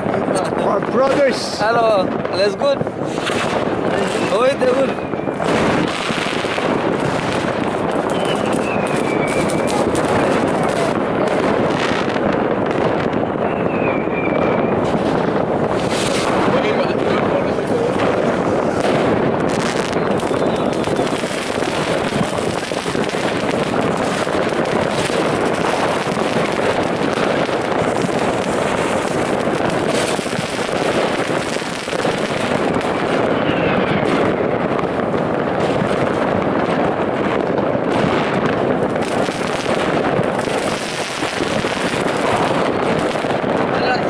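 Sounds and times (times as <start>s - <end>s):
fireworks and firecrackers banging: 0.0s - 44.0s.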